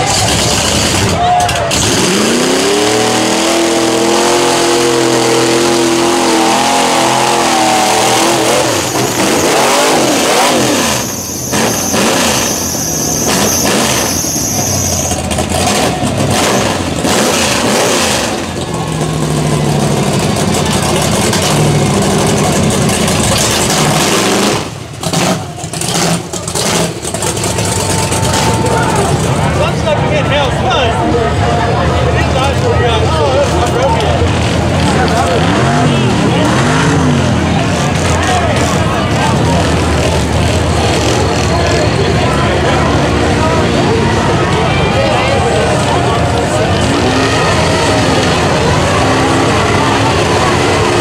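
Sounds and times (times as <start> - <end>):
tires spinning in mud: 0.0 - 51.0
truck engine revving: 0.0 - 51.0.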